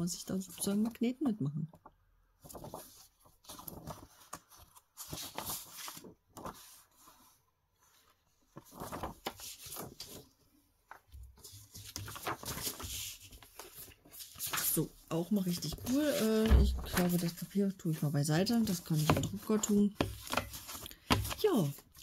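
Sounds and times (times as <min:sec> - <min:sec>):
paper sheets rustling: 0:02.4 - 0:22.0.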